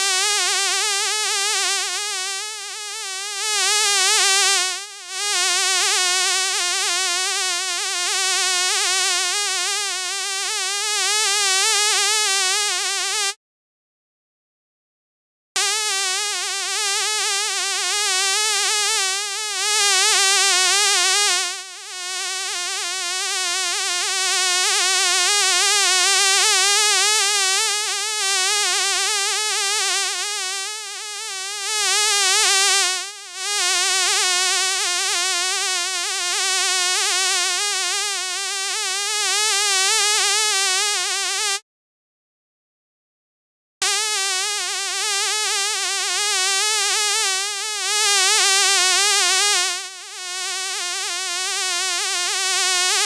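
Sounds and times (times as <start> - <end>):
fly buzzing: 0.0 - 13.4, 15.6 - 41.6, 43.8 - 53.0.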